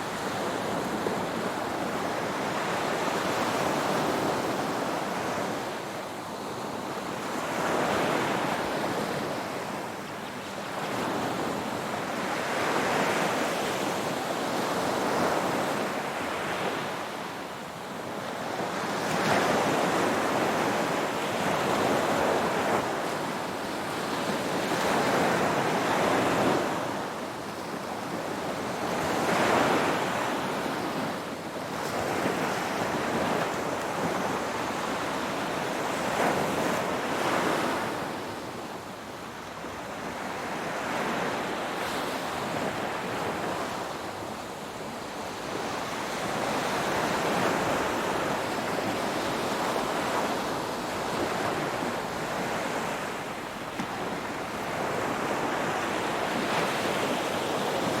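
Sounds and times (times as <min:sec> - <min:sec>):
ocean waves washing onto shore: 0:00.0 - 0:58.0
wind: 0:00.0 - 0:58.0.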